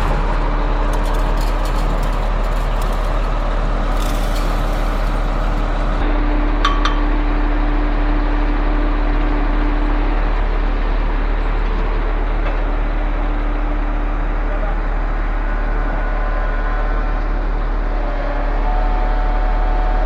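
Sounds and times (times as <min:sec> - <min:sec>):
concrete pump diesel engine running: 0:00.0 - 0:20.0.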